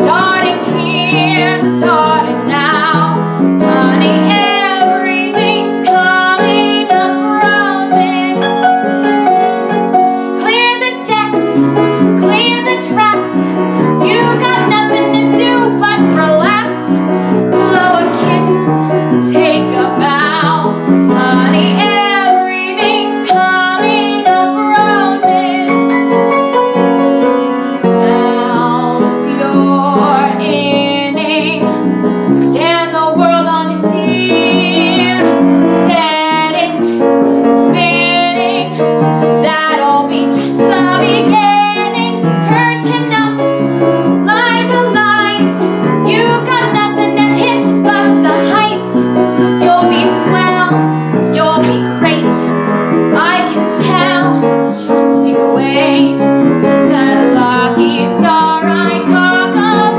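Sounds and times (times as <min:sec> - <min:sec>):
woman singing with vibrato: 0:00.0 - 0:08.7, 0:10.3 - 0:26.0, 0:28.0 - 0:38.8, 0:39.4 - 0:43.4, 0:44.2 - 0:52.5, 0:53.1 - 0:59.9
piano accompaniment: 0:00.0 - 0:59.9.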